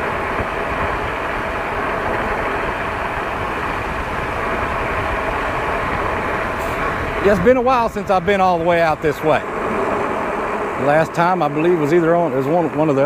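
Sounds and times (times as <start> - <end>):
wind and tyre noise: 0.0 - 13.0
wind buffeting microphone: 0.0 - 13.0.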